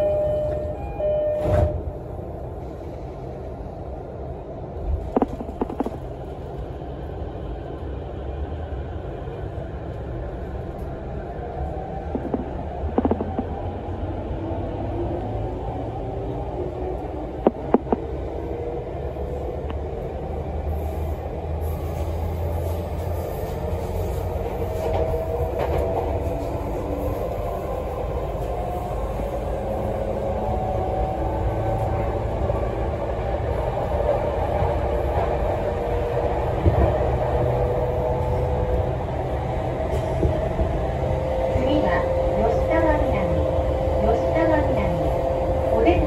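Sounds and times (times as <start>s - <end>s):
train running rumble: 0.0s - 46.0s.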